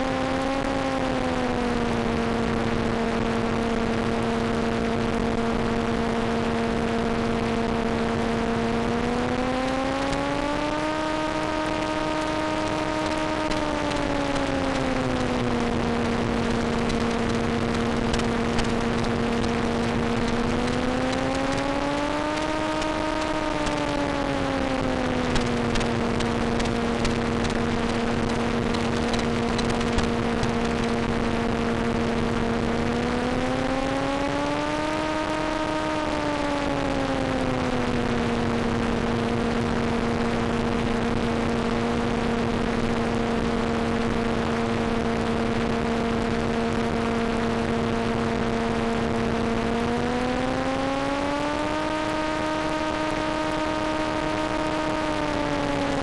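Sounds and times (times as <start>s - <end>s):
electric motor and propeller droning: 0.0s - 56.0s.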